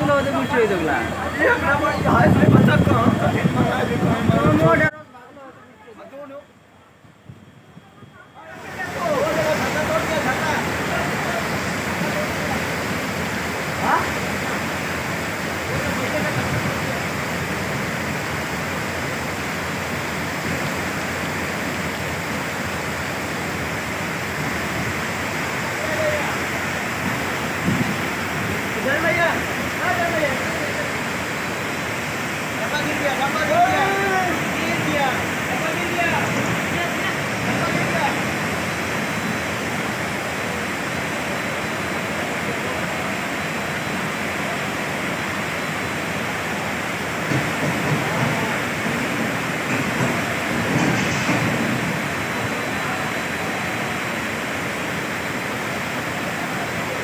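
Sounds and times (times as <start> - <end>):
floodwater rushing: 0.0 - 7.0, 8.4 - 57.0.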